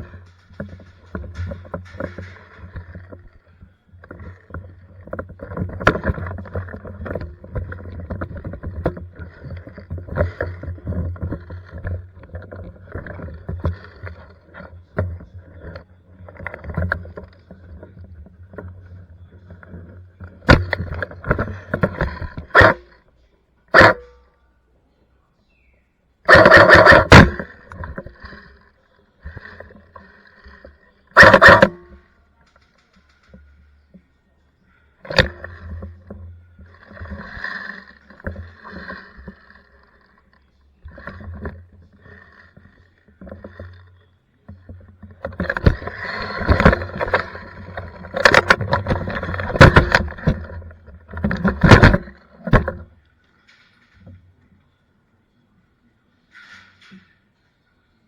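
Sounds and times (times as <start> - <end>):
rustling of gear: 0.0 - 24.4, 25.4 - 55.4.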